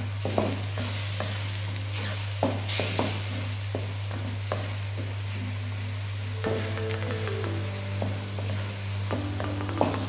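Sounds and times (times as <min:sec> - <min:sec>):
spice paste sizzling in a wok: 0:00.0 - 0:10.0.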